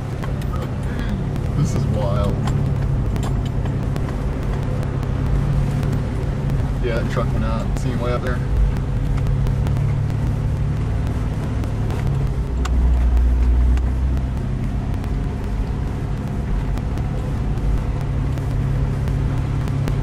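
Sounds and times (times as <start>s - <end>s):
car engine drone in cabin: 0.0s - 20.0s.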